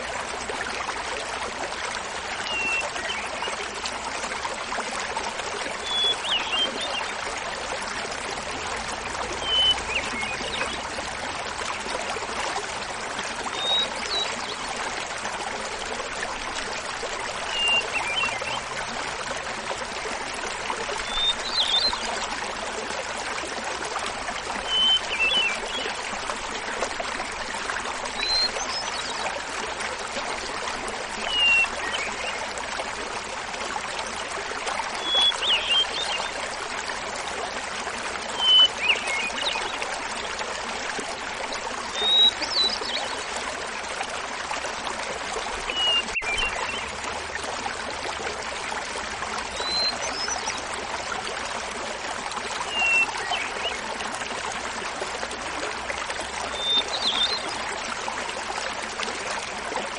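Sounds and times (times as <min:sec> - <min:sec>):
small waterfall babbling: 0:00.0 - 0:59.9.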